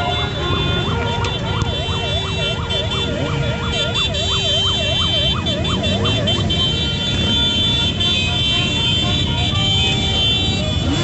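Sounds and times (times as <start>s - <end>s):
motorcycle engines running: 0.0s - 11.0s
siren yelping: 0.0s - 11.0s.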